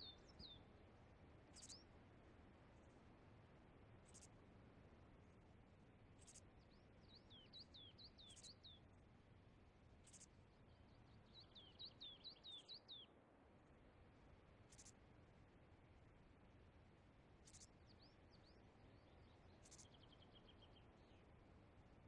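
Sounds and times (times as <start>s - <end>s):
faint low background hiss: 0.0s - 22.0s.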